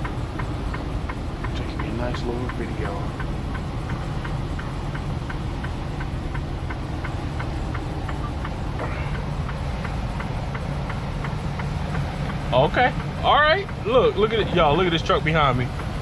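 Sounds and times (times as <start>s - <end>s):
light ticking of tire chains: 0.0s - 16.0s
truck engine low rumble: 0.0s - 16.0s.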